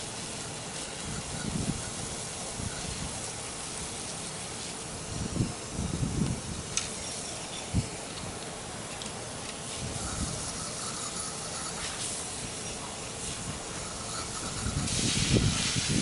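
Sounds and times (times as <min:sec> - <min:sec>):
hose spraying water on concrete: 0:00.0 - 0:16.0.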